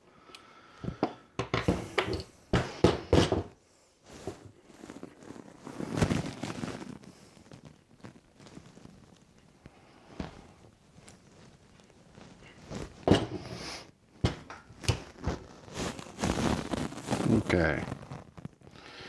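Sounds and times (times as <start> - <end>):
rustling scraping noise: 0.8 - 19.0.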